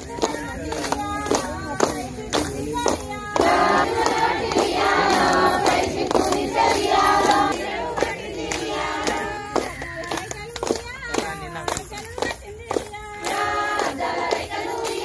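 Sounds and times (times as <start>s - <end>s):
hand claps: 0.0s - 15.0s
women singing in chorus: 0.0s - 15.0s.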